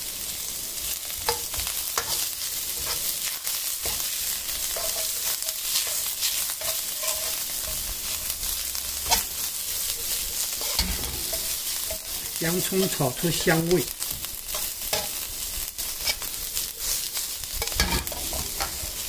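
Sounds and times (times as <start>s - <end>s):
onions sizzling in oil: 0.0s - 19.0s
metal spatula scraping wok: 1.2s - 13.3s, 14.4s - 19.0s.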